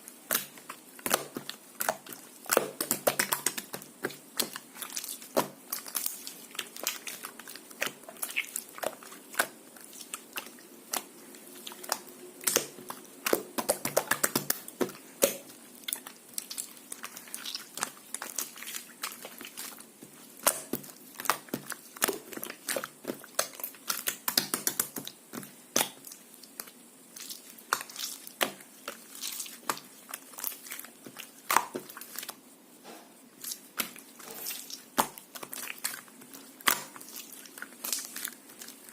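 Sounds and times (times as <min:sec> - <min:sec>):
slime squished by hand: 0:00.1 - 0:38.9.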